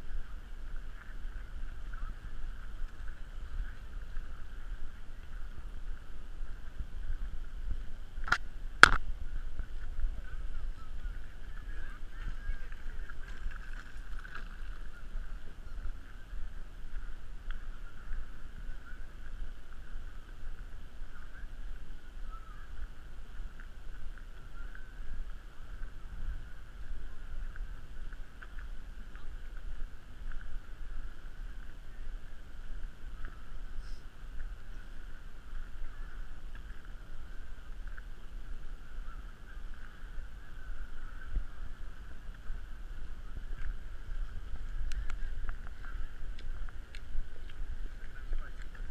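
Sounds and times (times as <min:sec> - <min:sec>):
faint high whine: 0:00.0 - 0:48.9
wind buffeting microphone: 0:00.0 - 0:48.9.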